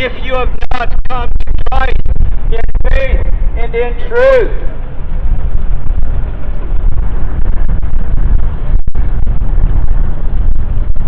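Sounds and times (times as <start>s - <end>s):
street noise rumble: 0.0s - 11.0s.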